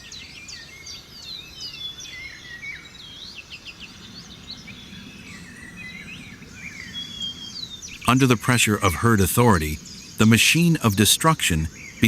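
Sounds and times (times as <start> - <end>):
open-country ambience: 0.0 - 12.0
small birds chirping: 0.0 - 12.0.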